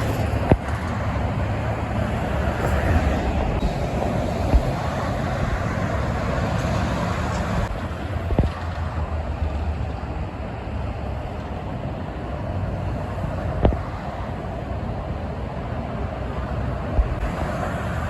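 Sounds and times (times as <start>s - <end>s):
highway traffic rumble: 0.0s - 18.0s
trucks passing: 0.0s - 18.0s.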